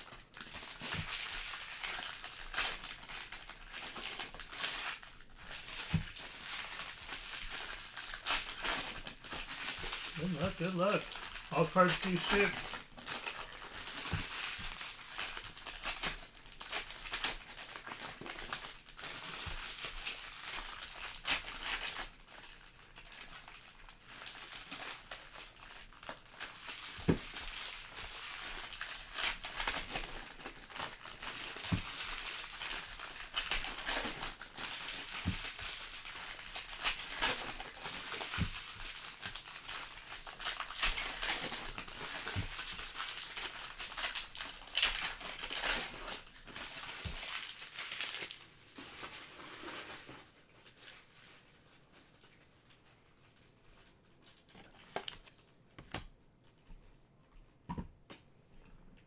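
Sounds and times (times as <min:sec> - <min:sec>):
wrappers crinkling and tearing: 0:00.0 - 0:56.1.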